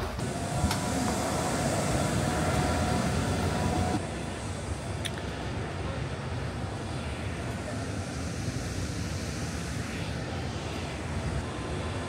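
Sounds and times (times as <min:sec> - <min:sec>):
distant traffic drone: 0:00.0 - 0:12.0.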